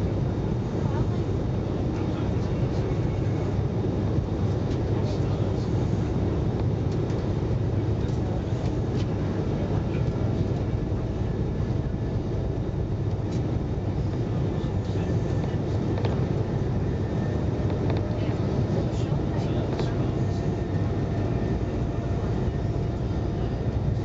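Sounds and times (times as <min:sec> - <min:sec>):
train rumble inside carriage: 0:00.0 - 0:24.0.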